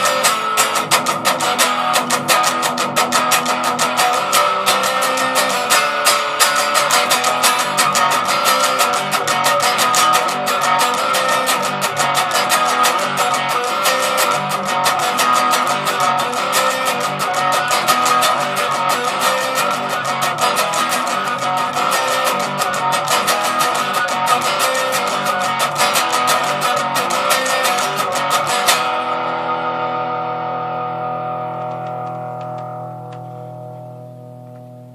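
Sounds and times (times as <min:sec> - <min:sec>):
distorted electric guitar picking: 0:00.0 - 0:34.9.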